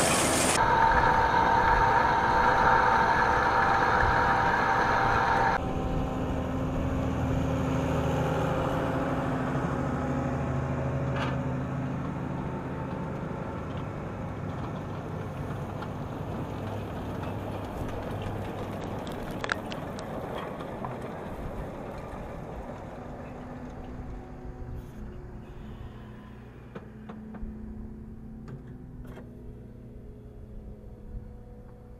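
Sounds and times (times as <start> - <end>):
tractor diesel engine under load: 0.0 - 28.1.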